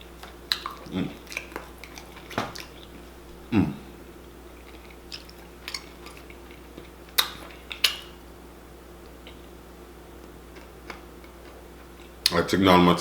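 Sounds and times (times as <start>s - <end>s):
chewing and smacking food: 0.0s - 3.5s, 4.1s - 8.3s, 9.0s - 9.6s, 10.2s - 12.4s
faint steady hum: 0.0s - 13.0s.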